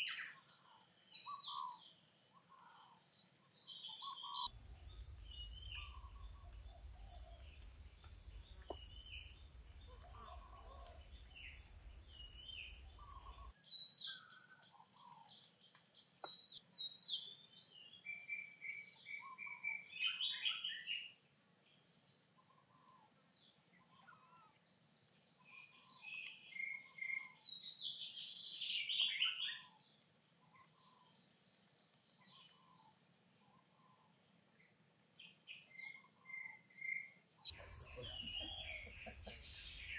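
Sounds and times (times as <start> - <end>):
insects droning high-pitched: 0.0 - 39.9.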